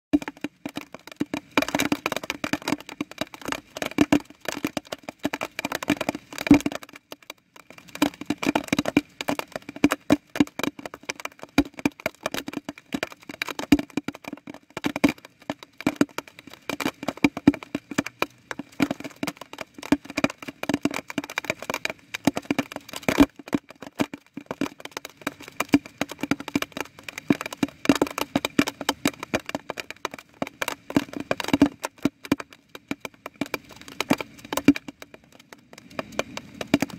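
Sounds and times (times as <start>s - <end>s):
water drops pattering: 0.1s - 36.9s.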